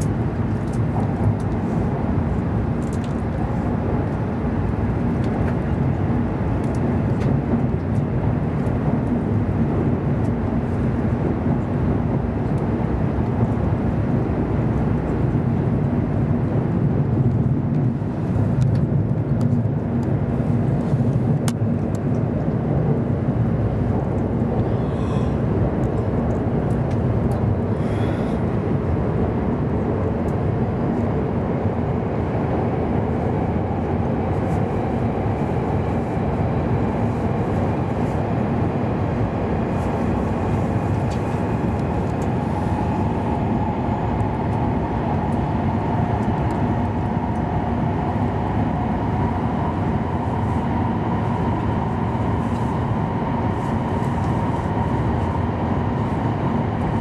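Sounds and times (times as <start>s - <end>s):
constant hum: 0.0s - 57.0s
train cabin low rumble: 0.0s - 57.0s.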